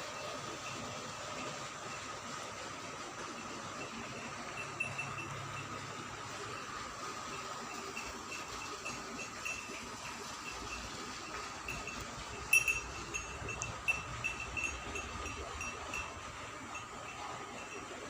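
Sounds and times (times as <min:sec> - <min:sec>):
neck bells clinking: 0:03.2 - 0:18.0.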